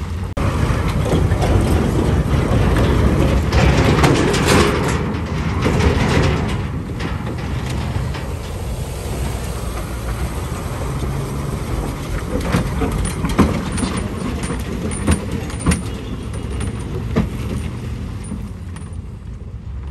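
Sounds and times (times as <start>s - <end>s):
diesel truck engine running: 0.0s - 17.3s
sharp knocks and clanks: 0.4s - 19.0s.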